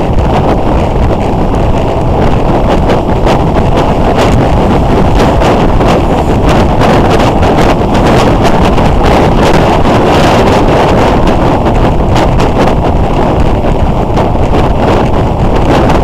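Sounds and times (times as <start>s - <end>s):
motorcycle running: 0.0s - 16.0s
wind buffeting microphone: 0.0s - 16.0s.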